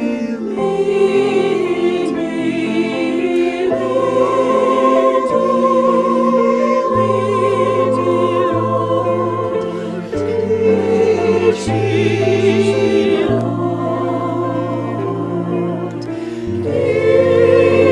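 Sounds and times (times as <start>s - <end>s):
choir singing: 0.0s - 17.9s
sustained instrumental accompaniment: 0.0s - 17.9s.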